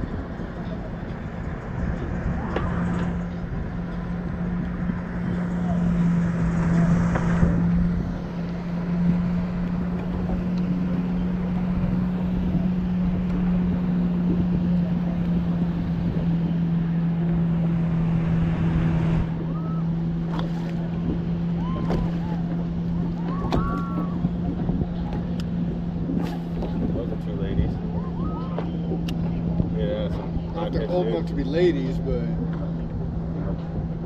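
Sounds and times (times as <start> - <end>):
boat motor humming: 0.0 - 34.0
wind rushing over microphone: 0.0 - 34.0.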